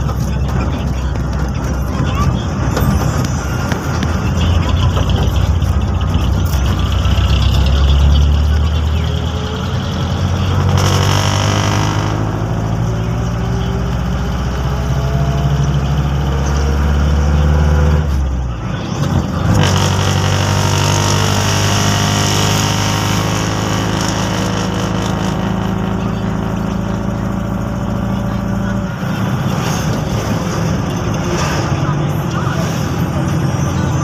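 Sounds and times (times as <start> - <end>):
road and wind noise: 0.0 - 34.0
vehicle engine running: 0.0 - 34.0.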